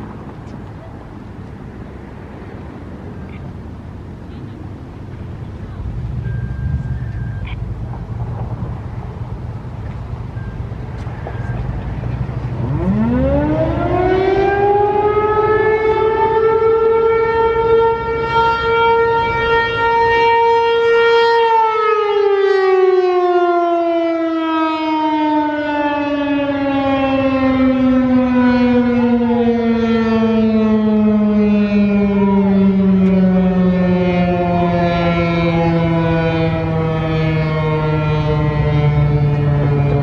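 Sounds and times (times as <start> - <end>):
rotating siren: 0.0 - 40.0.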